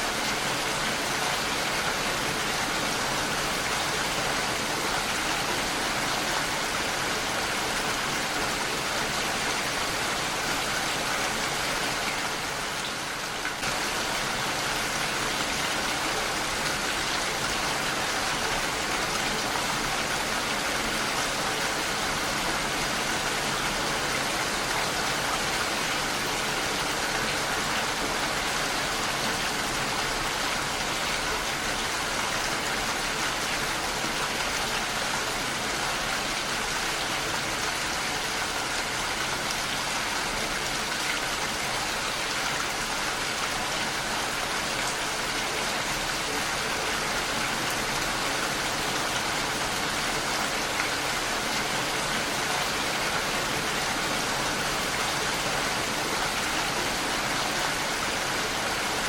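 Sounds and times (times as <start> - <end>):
heavy rain against a window: 0.0 - 59.0.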